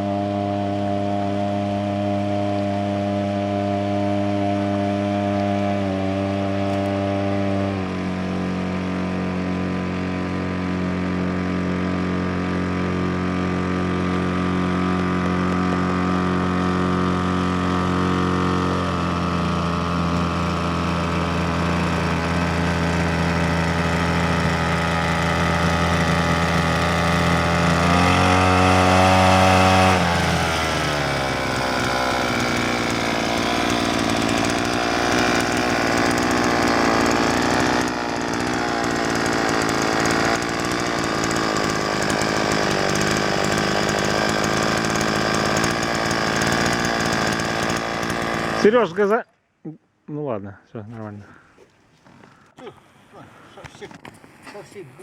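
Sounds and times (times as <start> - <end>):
small engine buzzing: 0.0 - 49.2.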